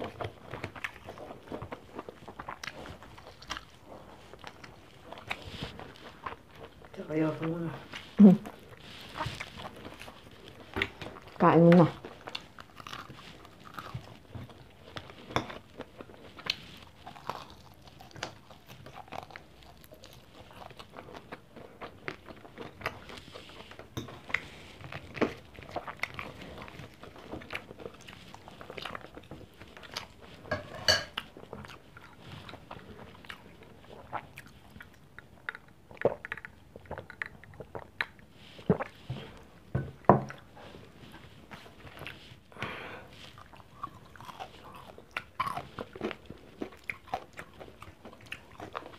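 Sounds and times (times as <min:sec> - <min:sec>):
chewing and biting mouth sounds: 0:00.0 - 0:48.9.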